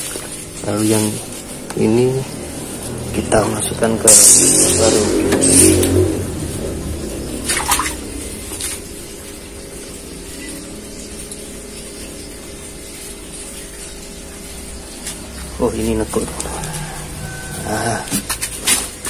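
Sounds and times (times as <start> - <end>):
water flowing through hose: 0.0 - 19.0.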